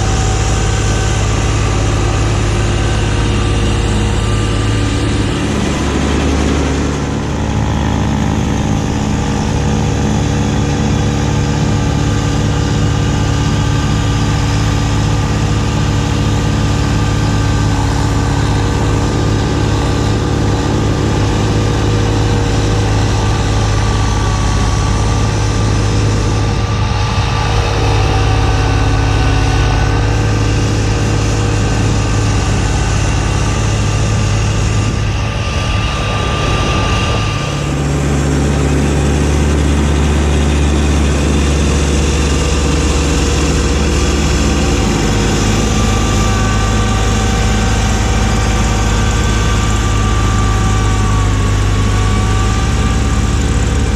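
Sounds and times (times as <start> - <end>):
diesel tractor engine running: 0.0 - 53.9.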